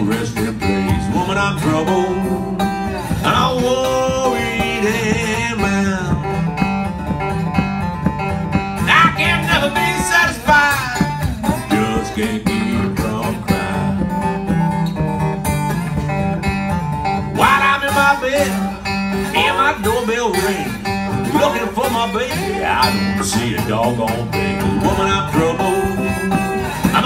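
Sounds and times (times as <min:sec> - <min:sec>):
slide acoustic guitar blues: 0:00.0 - 0:27.0.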